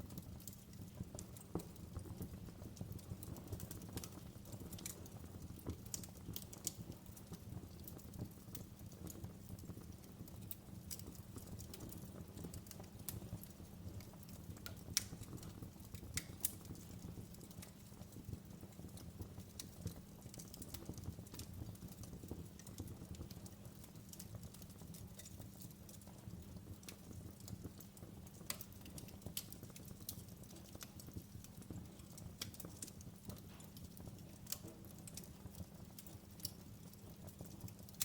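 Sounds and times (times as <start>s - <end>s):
low rumble of burning: 0.0s - 38.0s
wood fire crackling and popping: 0.0s - 38.0s.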